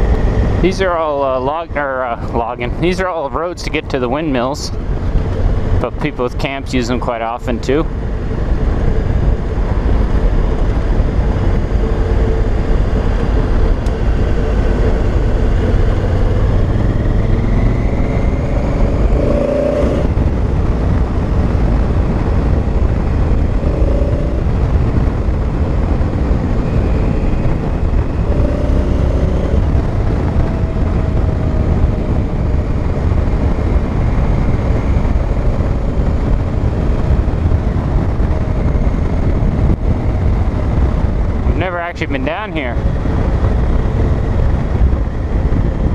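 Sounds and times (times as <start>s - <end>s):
motorcycle engine revving: 4.0s - 41.5s.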